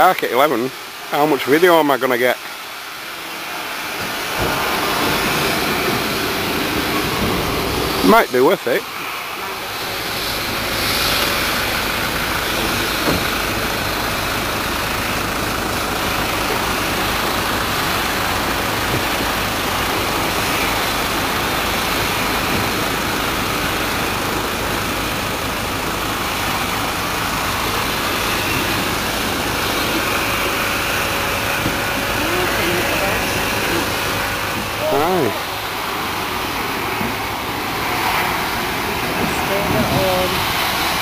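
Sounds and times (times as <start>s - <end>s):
van engine idling: 0.0s - 41.0s.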